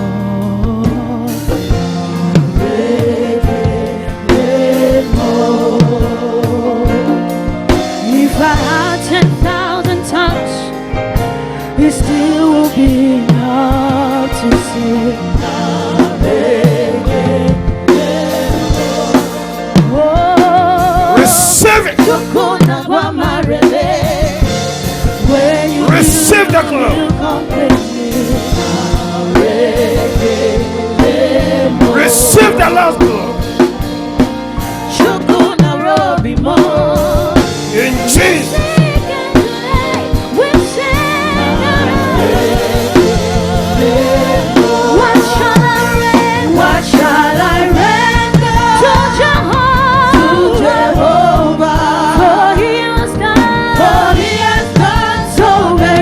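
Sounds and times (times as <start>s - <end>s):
drum kit: 0.0s - 56.0s
gospel singing with vibrato: 0.0s - 56.0s.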